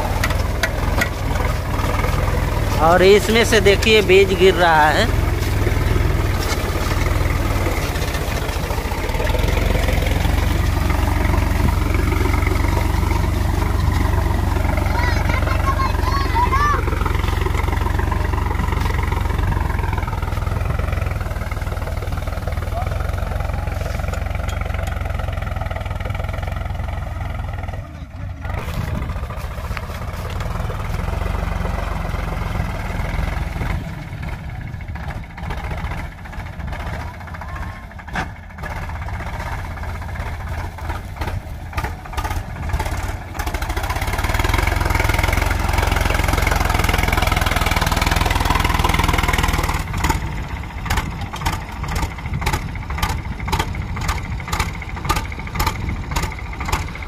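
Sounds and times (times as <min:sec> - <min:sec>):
tractor diesel engine rumbling: 0:00.0 - 0:57.0.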